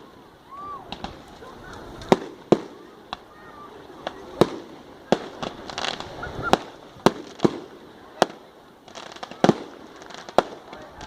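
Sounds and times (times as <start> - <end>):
fireworks bangs: 0.0 - 11.0
fireworks crackling bursts: 0.0 - 11.0.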